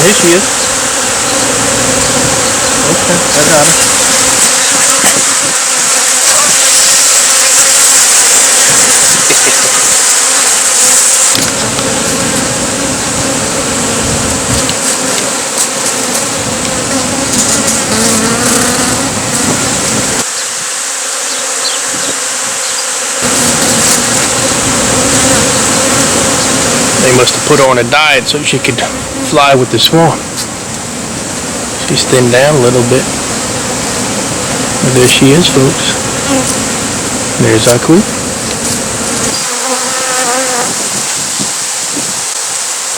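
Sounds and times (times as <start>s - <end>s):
bee swarm buzzing: 0.0s - 42.9s.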